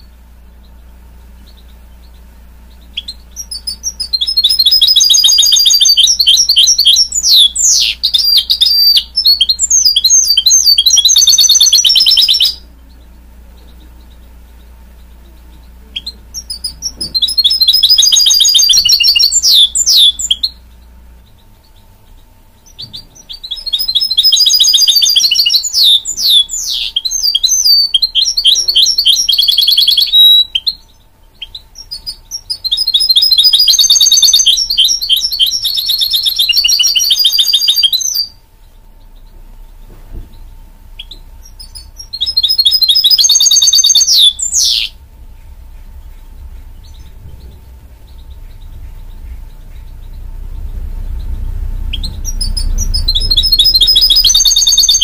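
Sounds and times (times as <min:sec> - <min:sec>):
bird singing trills and twitters: 0:00.0 - 0:55.0.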